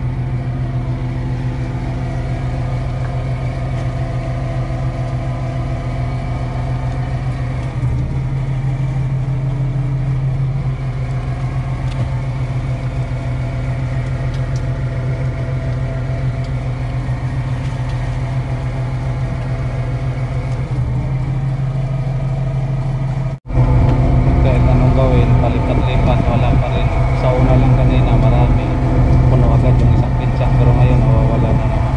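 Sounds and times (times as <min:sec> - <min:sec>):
boat engine droning: 0:00.0 - 0:31.9.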